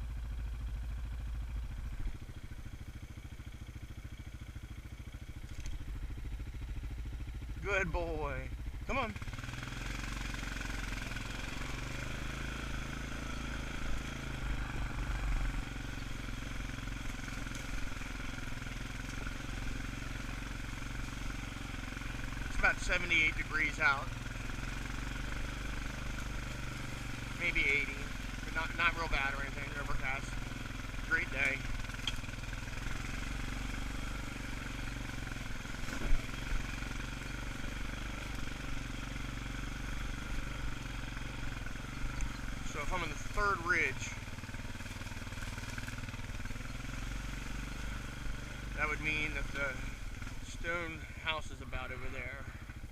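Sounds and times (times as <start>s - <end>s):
atv engine running: 0.0s - 52.9s.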